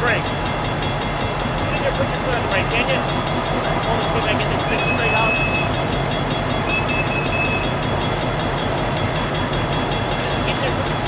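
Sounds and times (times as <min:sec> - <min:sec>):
diesel locomotives idling: 0:00.0 - 0:11.0
fast metallic ringing: 0:00.0 - 0:11.0.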